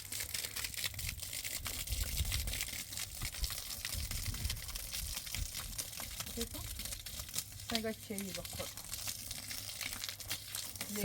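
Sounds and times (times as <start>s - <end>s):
crackling and rustling: 0.3s - 11.0s.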